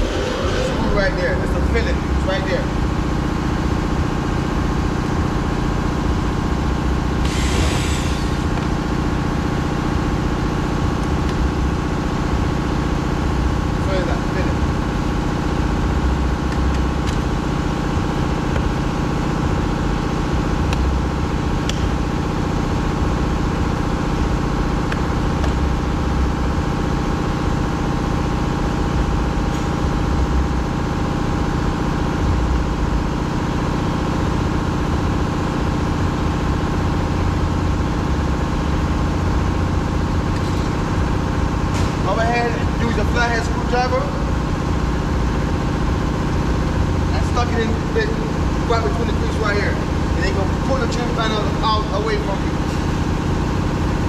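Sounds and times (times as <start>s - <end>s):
mechanical drone: 0.0s - 54.0s.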